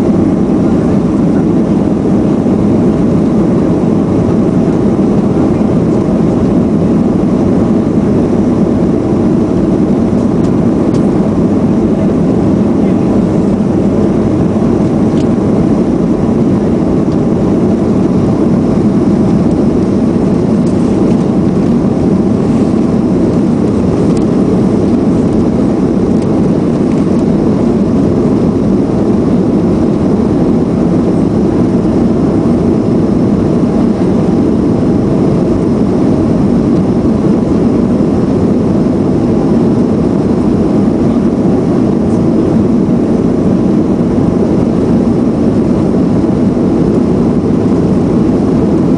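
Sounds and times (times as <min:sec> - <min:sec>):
jet engines roaring: 0:00.0 - 0:48.9.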